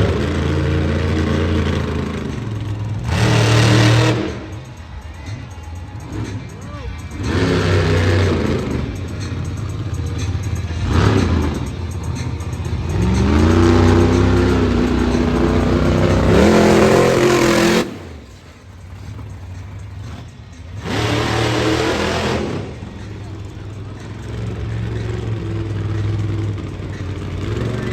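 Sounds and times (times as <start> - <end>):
truck engine revving hard: 0.0 - 4.9, 6.0 - 27.9.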